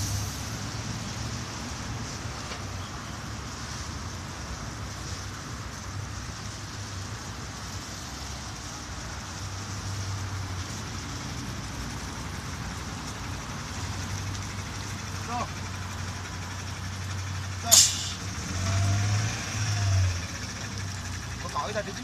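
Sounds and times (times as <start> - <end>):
bus engine humming: 0.0 - 22.0.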